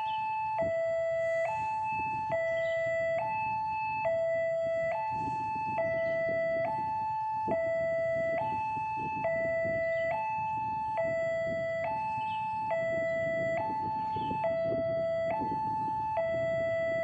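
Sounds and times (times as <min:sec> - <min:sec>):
level crossing two-tone alarm: 0:00.0 - 0:17.0
road traffic rumble: 0:00.0 - 0:17.0.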